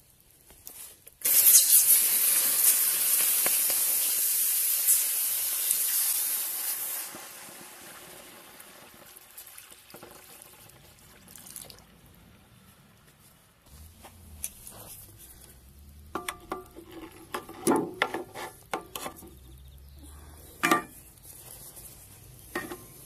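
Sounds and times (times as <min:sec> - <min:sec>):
water hissing on hot metal: 0:00.0 - 0:12.1, 0:13.7 - 0:23.0.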